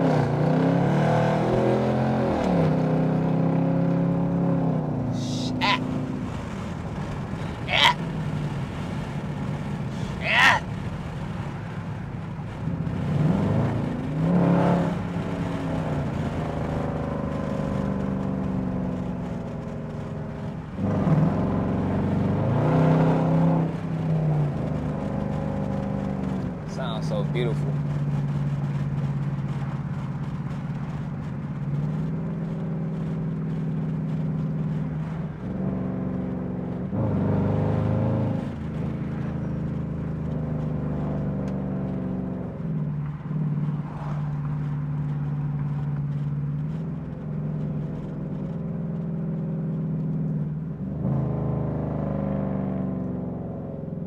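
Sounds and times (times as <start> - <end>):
car engine droning and shifting: 0.0 - 54.0.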